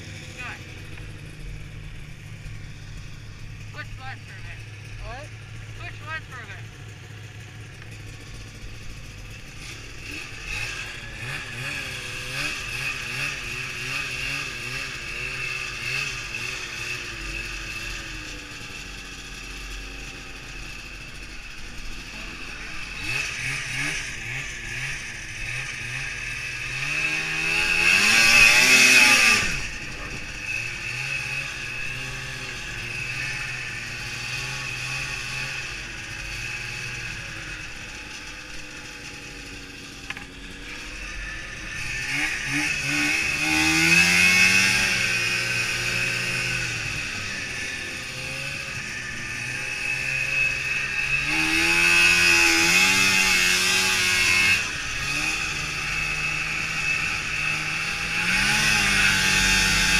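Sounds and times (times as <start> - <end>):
snowmobile engine revving: 0.0 - 59.9.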